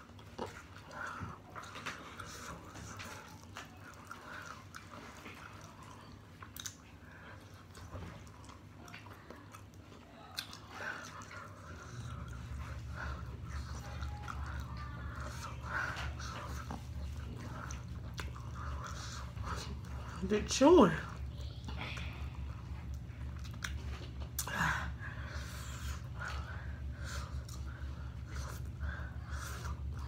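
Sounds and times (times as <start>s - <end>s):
person chewing chicken wings: 0.0s - 20.2s, 21.4s - 30.0s
low steady hum: 0.0s - 30.0s.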